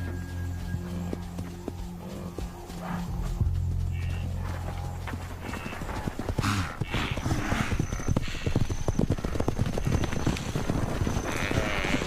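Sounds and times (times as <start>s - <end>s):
hooves of stampeding herd: 0.0s - 12.0s.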